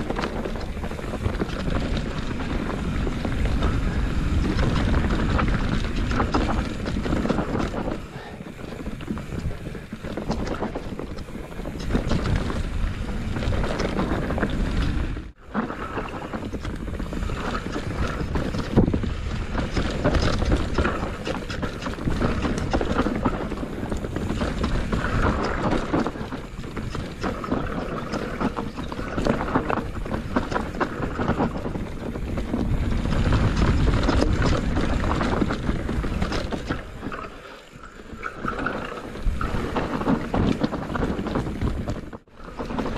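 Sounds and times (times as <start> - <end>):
rattling and knocking on bumpy trail: 0.0 - 42.9
wind buffeting microphone: 0.0 - 42.9.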